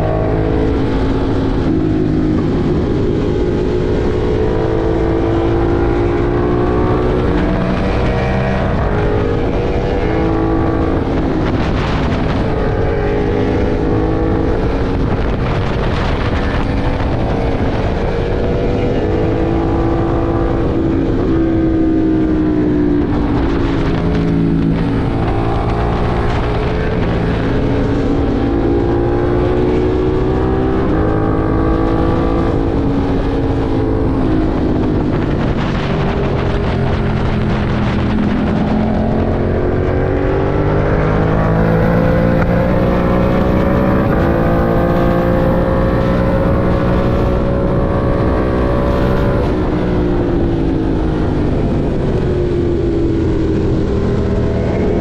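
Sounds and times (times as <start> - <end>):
motorcycle engine revving: 0.0 - 55.0
wind on microphone: 0.0 - 55.0.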